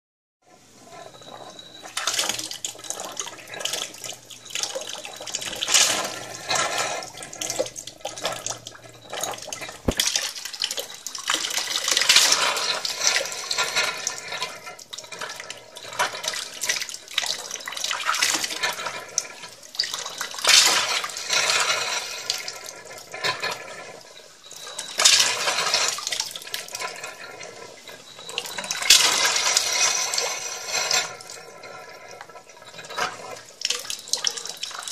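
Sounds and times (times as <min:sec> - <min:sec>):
water tap running in surges: 0:00.9 - 0:34.9.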